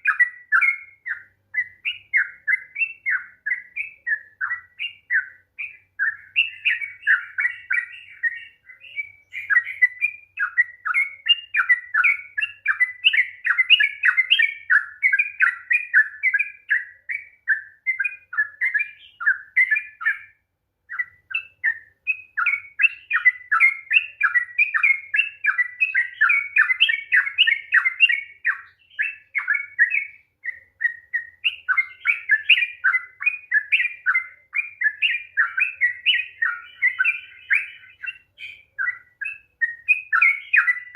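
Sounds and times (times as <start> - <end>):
bird singing chattering notes: 0.0 - 40.9.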